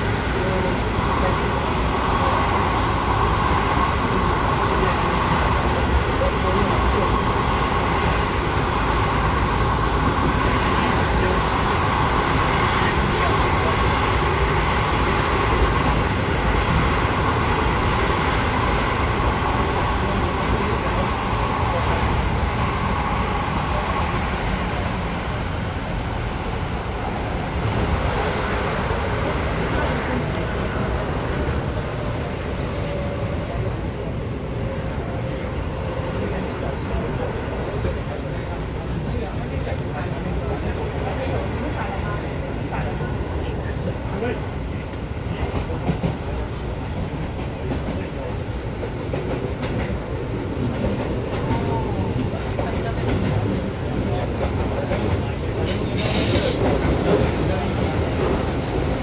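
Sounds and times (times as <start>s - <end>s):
electric train rumbling on track: 0.0s - 59.0s.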